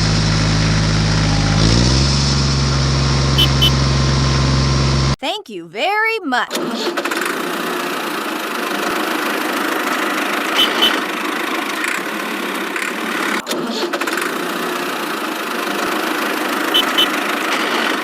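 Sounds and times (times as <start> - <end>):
small tractor engine running: 0.0 - 5.2, 7.0 - 18.0.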